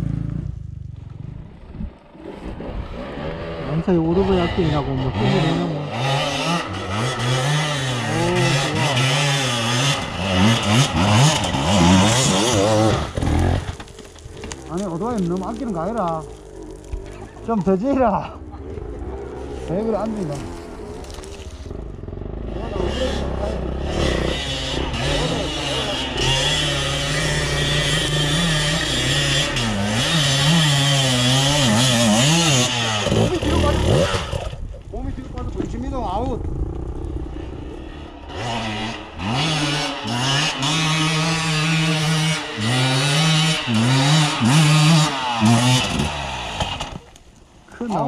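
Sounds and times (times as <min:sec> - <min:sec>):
dirt bike engine revving: 0:02.1 - 0:47.2.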